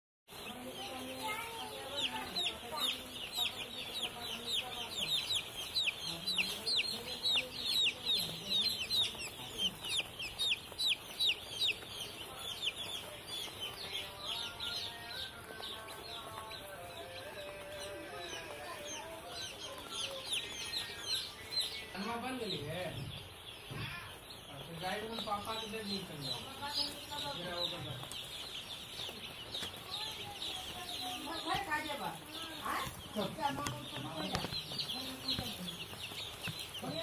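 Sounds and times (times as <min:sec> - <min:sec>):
chicks peeping: 0:00.3 - 0:37.0.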